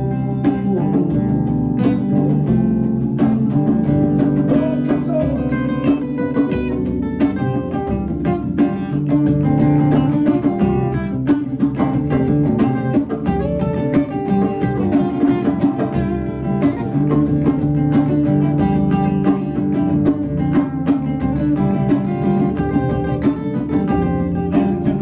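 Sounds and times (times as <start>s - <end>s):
bass guitar: 0.0s - 25.0s
drum kit steady beat: 0.0s - 25.0s
guitar: 0.0s - 25.0s.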